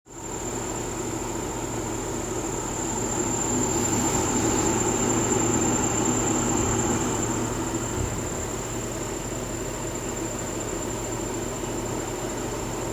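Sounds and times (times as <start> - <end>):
high-pitched motor whine: 0.2 - 11.5
air purifier fan running: 0.4 - 11.2.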